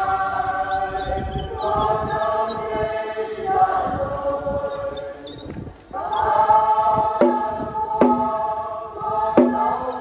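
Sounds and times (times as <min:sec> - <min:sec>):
choir singing a hymn: 0:00.0 - 0:10.0.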